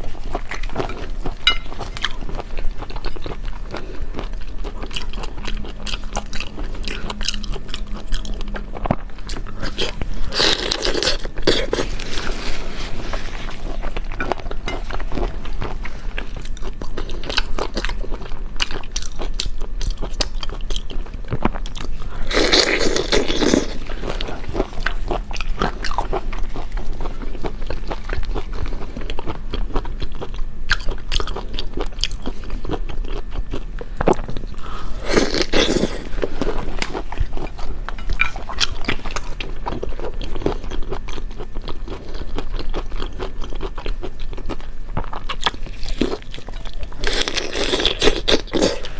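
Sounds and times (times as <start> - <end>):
crunching and chewing seafood: 0.0 - 48.9.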